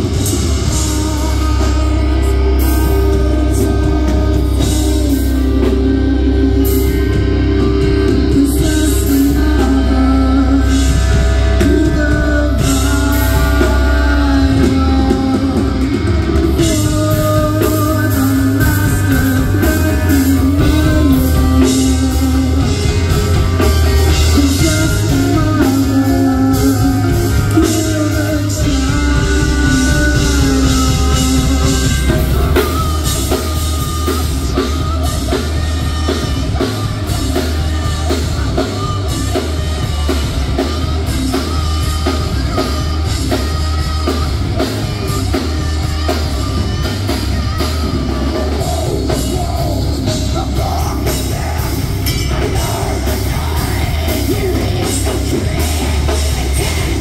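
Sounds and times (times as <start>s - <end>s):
bass guitar: 0.0s - 57.0s
drum kit: 0.0s - 57.0s
electric guitar: 0.0s - 57.0s
woman singing: 0.0s - 57.0s.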